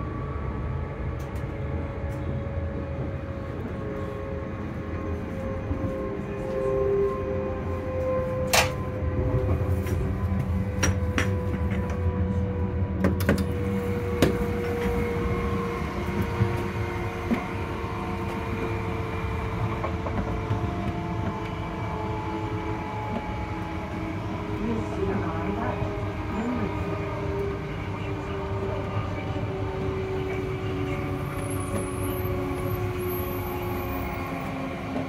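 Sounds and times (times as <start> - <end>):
train running rumble: 0.0 - 35.0
train traction motor whine: 0.0 - 35.0.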